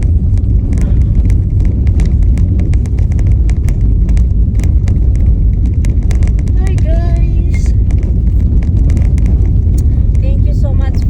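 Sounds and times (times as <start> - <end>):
road rumble inside car: 0.0 - 11.0.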